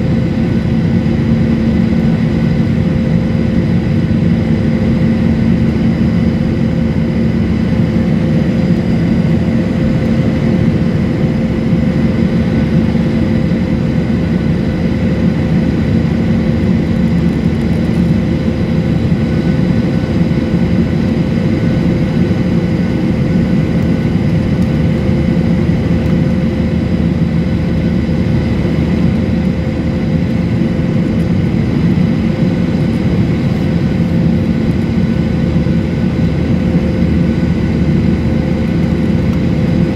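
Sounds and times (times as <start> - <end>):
airliner engine and airflow drone: 0.0 - 39.9
constant hums: 0.0 - 39.9.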